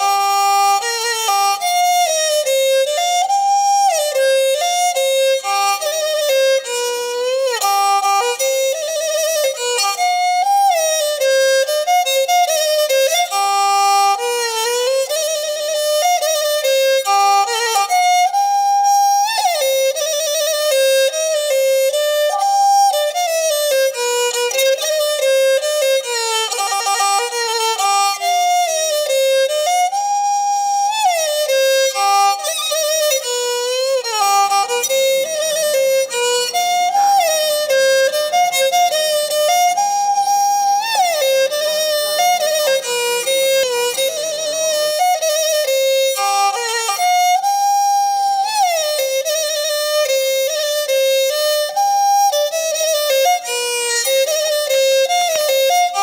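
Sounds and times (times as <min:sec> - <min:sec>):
bowed string melody: 0:00.0 - 0:56.0.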